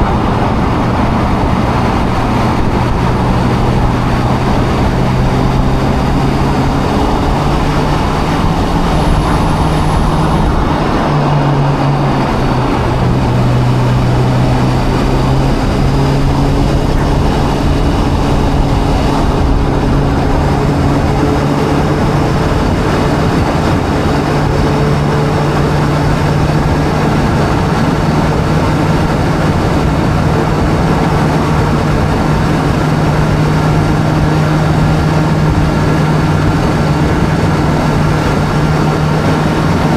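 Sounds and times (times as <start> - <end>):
motorbike engine cruising: 0.0 - 39.9
rushing noise: 0.0 - 39.9.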